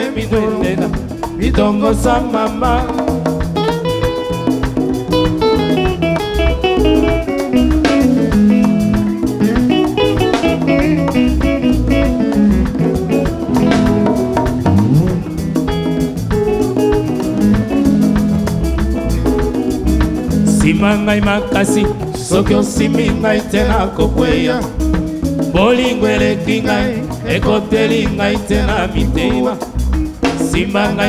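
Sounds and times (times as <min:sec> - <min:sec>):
bass guitar: 0:00.0 - 0:31.0
drums: 0:00.0 - 0:31.0
picked electric guitar lines: 0:00.0 - 0:31.0.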